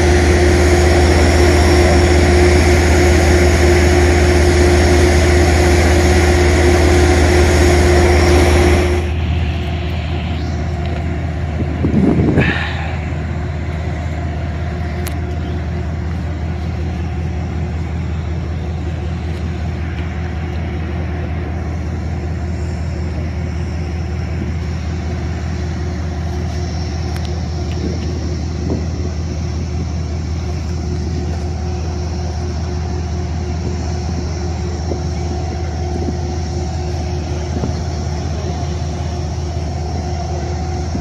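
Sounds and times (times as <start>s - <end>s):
diesel train engine drone: 0.0s - 41.0s
steady hum: 0.0s - 41.0s.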